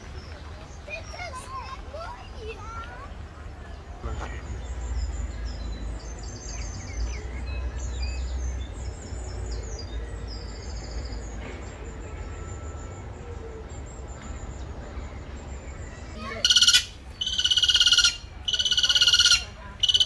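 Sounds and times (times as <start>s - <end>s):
small birds chirping: 0.0s - 13.2s, 13.8s - 20.0s.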